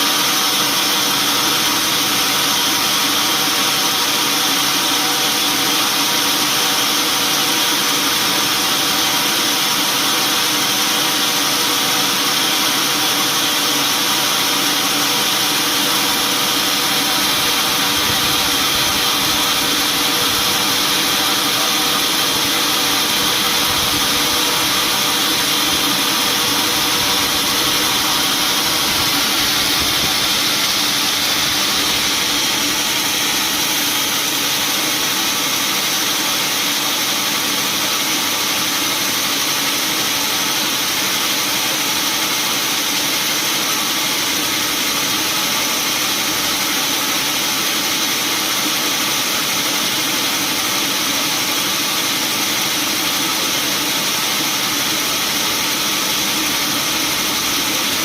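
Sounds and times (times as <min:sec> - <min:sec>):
sawmill machinery whine: 0:00.0 - 0:58.0.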